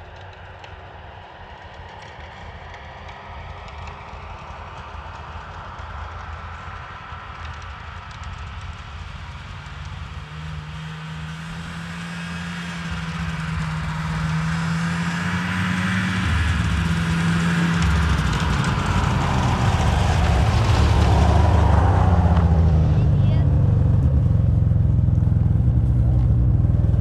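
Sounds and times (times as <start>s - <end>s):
snowmobile engine running: 3.8s - 27.0s.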